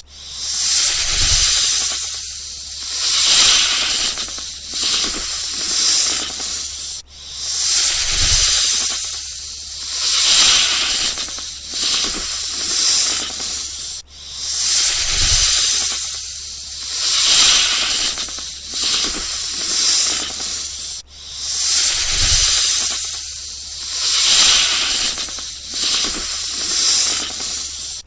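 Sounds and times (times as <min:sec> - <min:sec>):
snake hissing: 0:00.0 - 0:28.0.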